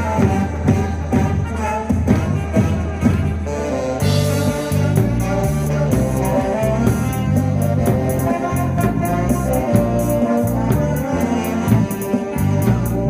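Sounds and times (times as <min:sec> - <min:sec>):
live band playing dance music: 0:00.0 - 0:13.0.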